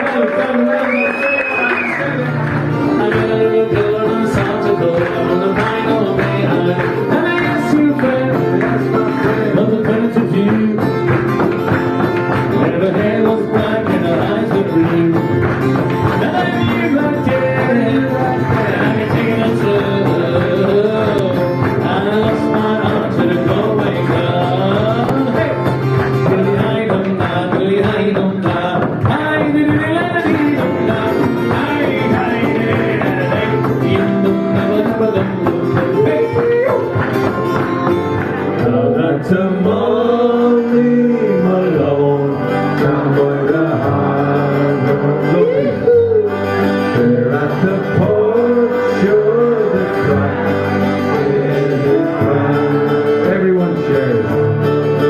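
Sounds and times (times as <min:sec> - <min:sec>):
bass line: 0:00.0 - 0:55.0
guitar accompaniment: 0:00.0 - 0:55.0
man singing: 0:00.0 - 0:55.0.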